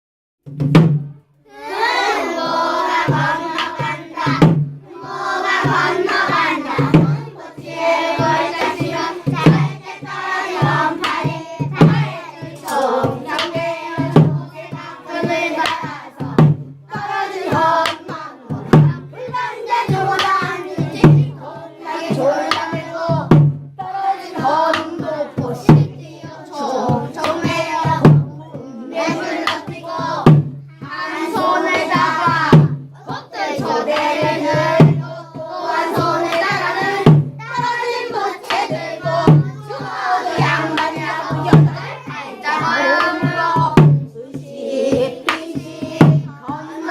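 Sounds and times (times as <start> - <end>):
steady drum beat: 0.5 - 1.2, 1.8 - 46.9
children singing: 1.4 - 46.9.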